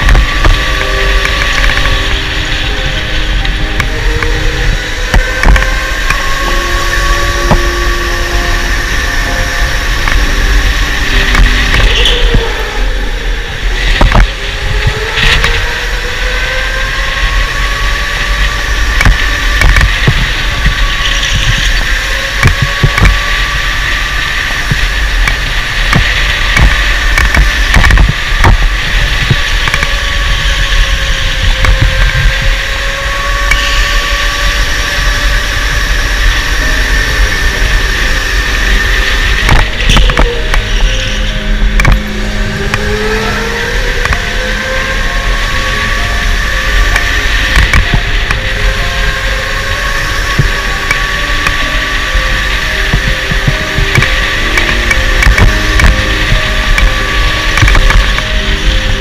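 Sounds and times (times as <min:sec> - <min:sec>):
electric motor whining: 0:00.0 - 0:59.0
heavy low rumble: 0:00.0 - 0:59.0
kart knocking and rattling: 0:00.0 - 0:59.0.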